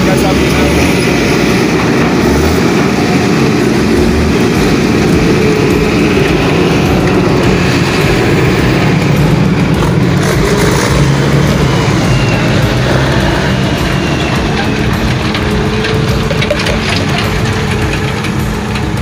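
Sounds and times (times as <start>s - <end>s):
diesel engine running loudly: 0.0s - 19.0s.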